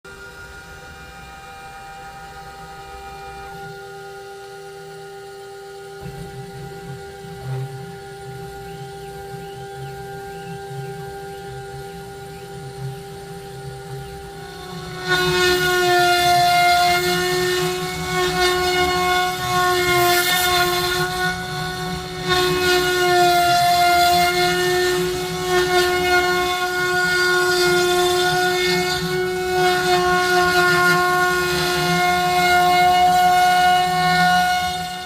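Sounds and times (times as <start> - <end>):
router spindle whining: 0.0 - 35.0
bit cutting wood hissing: 0.1 - 35.0.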